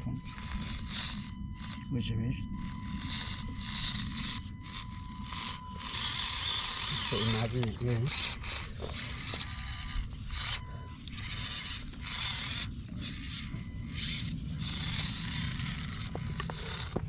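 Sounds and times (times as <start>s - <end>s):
small motor and gears whirring: 0.0s - 17.0s
toy truck scraping on rock: 0.0s - 17.0s.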